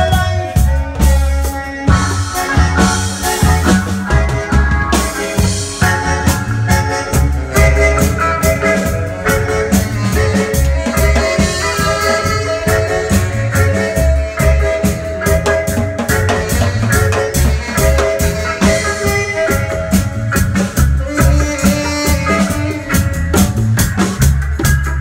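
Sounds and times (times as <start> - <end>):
melodica lead: 0.0 - 25.0
reggae band playing: 0.0 - 25.0.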